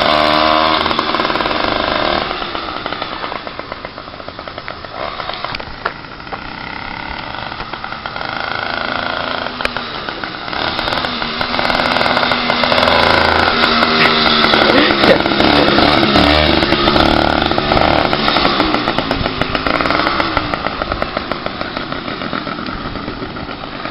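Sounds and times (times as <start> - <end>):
two-stroke bicycle engine running: 0.0 - 23.9.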